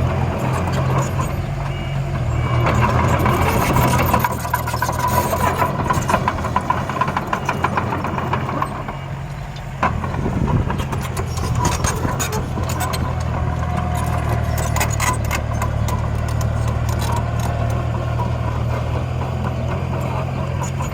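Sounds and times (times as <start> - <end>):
heavy machinery engine running: 0.0 - 20.9
rattling and clanking: 2.4 - 20.9.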